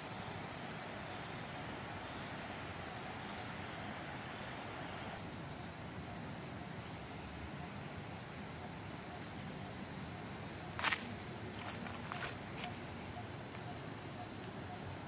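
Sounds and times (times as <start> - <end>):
insect trilling: 0.0 - 3.4, 5.2 - 15.0.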